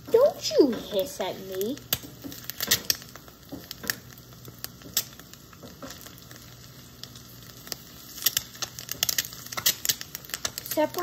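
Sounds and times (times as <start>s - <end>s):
eggs sizzling in a skillet: 0.0s - 11.0s
pops and crackles: 0.1s - 11.0s.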